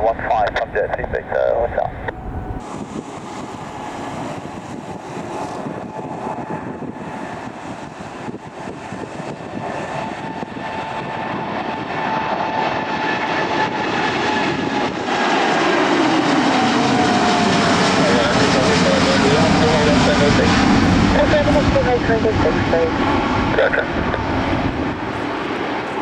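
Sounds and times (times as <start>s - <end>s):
jet engines rumbling with whine: 0.0s - 26.0s.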